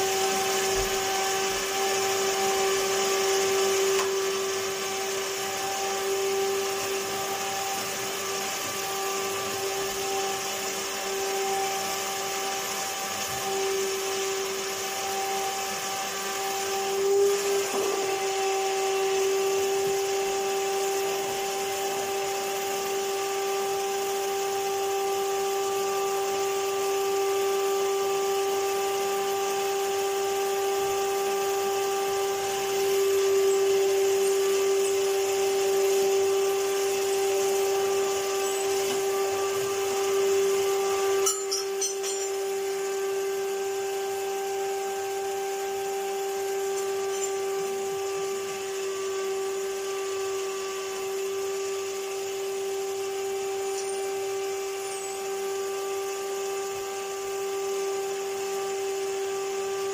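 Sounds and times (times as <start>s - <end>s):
vacuum cleaner motor humming: 0.0s - 59.9s.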